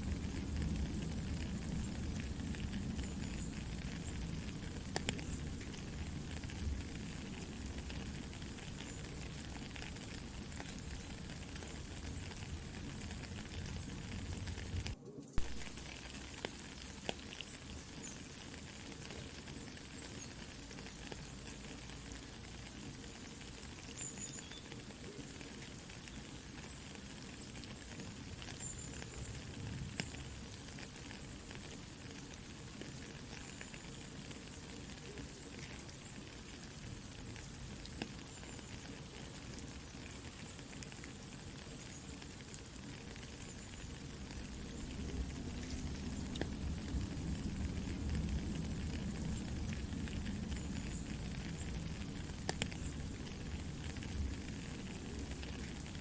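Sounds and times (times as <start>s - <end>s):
campfire crackling: 0.0s - 56.0s
soft rain: 0.0s - 56.0s.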